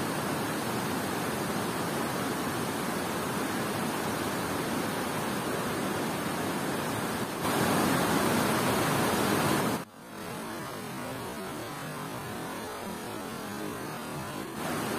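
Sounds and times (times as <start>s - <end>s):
floodwater rushing over spillway: 0.0s - 14.9s.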